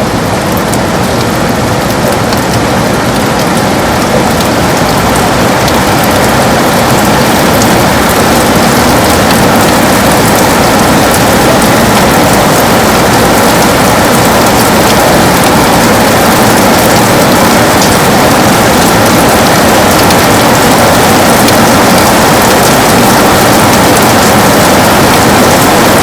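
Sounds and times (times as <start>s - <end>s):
heavy rain on a window: 0.0s - 26.0s.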